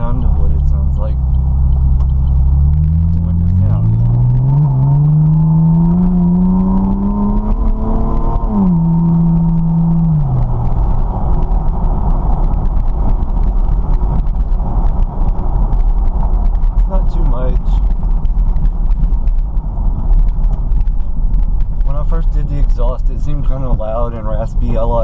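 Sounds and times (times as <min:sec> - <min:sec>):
car exhaust accelerating: 0:00.0 - 0:25.0
wind and road noise: 0:00.0 - 0:25.0.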